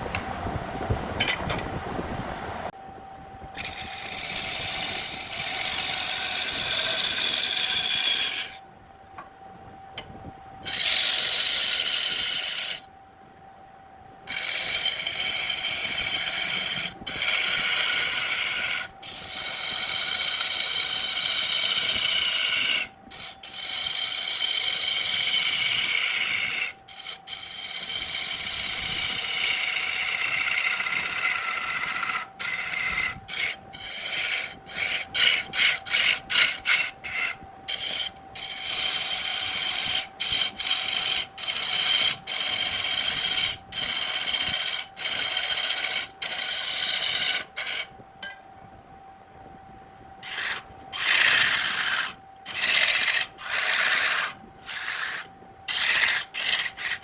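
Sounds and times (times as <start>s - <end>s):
lathe whine: 0.0s - 57.0s
lathe tool scraping wood: 3.6s - 8.6s, 10.6s - 12.9s, 14.3s - 47.9s, 50.2s - 57.0s.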